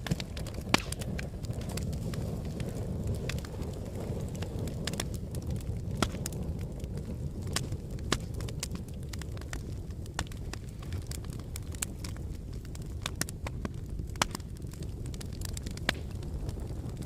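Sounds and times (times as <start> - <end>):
fire flames rumbling: 0.0 - 17.0
wood fire crackling and popping: 0.0 - 17.0.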